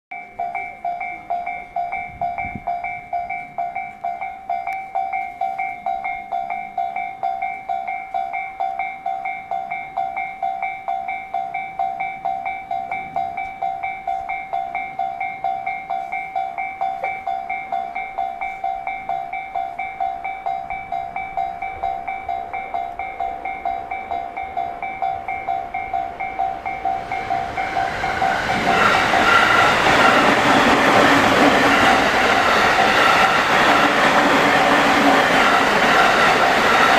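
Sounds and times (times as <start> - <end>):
level crossing bell clanging: 0.1 - 36.9
train running noise: 0.2 - 36.9.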